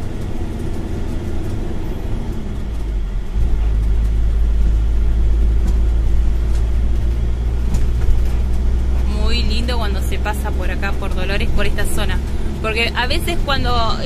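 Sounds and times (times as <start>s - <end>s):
vehicle road and engine rumble: 0.0s - 14.0s.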